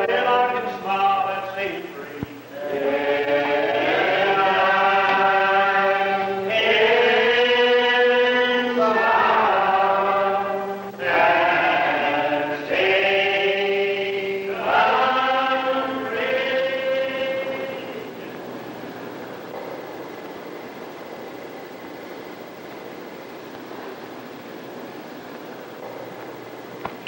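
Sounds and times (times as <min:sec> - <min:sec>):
slow singing with long held notes: 0:00.0 - 0:27.0.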